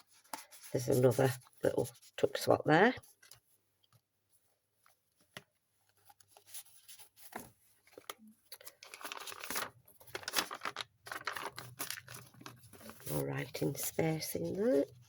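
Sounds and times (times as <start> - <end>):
paper rustling and crinkling: 0.0 - 3.6, 4.8 - 15.0.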